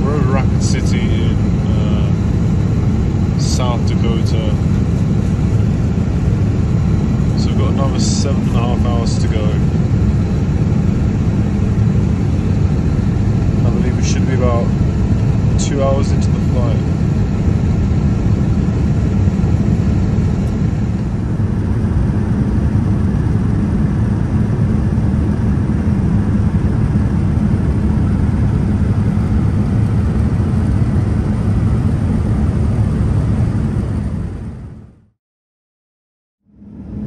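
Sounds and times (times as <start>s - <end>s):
airliner cabin noise: 0.0s - 34.8s, 36.6s - 37.0s.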